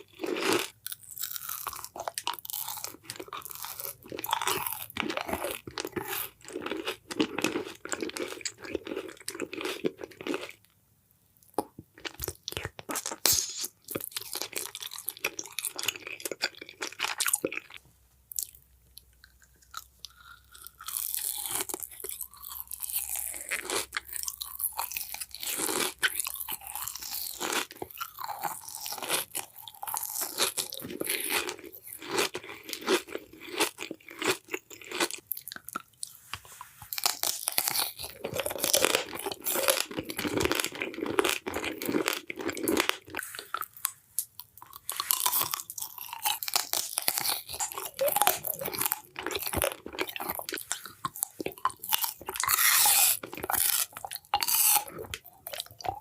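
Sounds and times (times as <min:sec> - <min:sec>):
close-up crunching and crackling: 0:00.0 - 0:10.7, 0:11.5 - 0:56.0.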